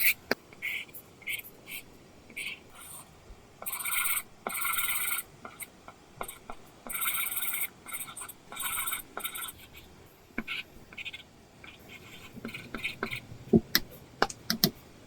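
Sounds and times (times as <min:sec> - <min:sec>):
pencil scratching on screen: 0:00.0 - 0:14.1.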